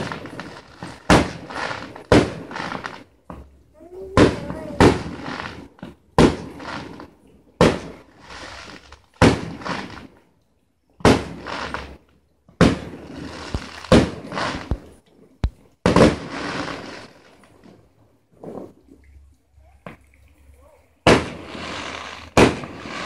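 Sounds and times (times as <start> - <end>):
fireworks bursting: 0.0 - 10.2, 11.0 - 19.0, 21.0 - 23.0.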